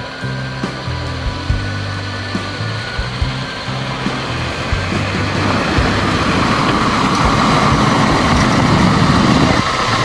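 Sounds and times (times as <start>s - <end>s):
car engine running: 0.0s - 10.0s
studded tyres rolling over snow: 0.0s - 10.0s.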